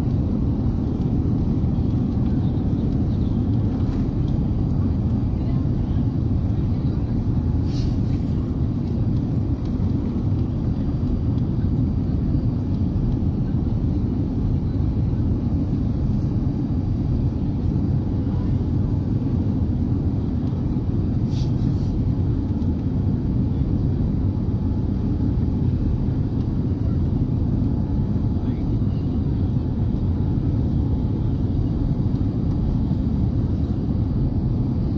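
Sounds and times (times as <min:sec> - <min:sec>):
aircraft cabin engine rumble: 0:00.0 - 0:34.9.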